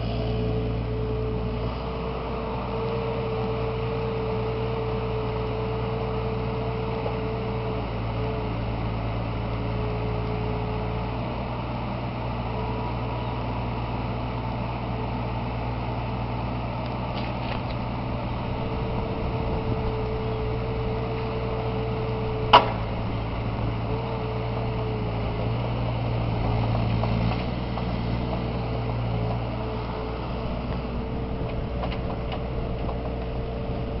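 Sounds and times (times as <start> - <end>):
engine whine: 0.0 - 34.0
excavator diesel engine running: 0.0 - 34.0.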